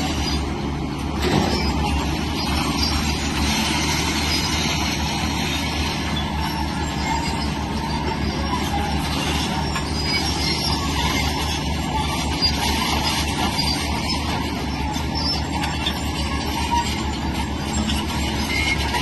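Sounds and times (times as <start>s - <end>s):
bulldozer diesel engine droning: 0.0s - 19.0s
metallic track noise: 0.0s - 19.0s.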